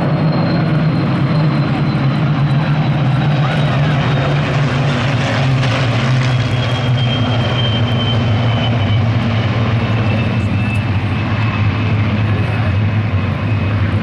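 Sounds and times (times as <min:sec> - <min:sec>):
propeller planes flying past: 0:00.0 - 0:14.0.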